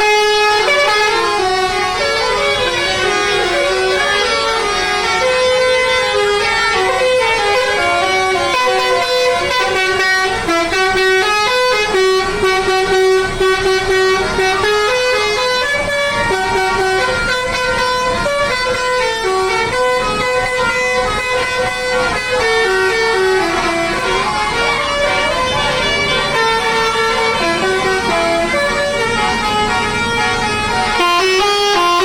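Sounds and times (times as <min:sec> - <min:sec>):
musical bus horn playing a tune: 0:00.0 - 0:32.0.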